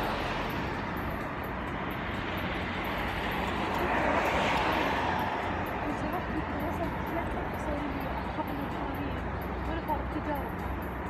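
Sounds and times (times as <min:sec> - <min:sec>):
passing vehicle roar: 0:00.0 - 0:11.0.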